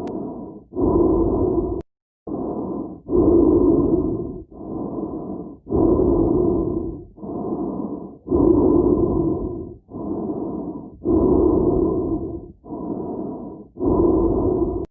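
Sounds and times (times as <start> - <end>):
heavy breathing inside helmet: 0.0 - 14.9.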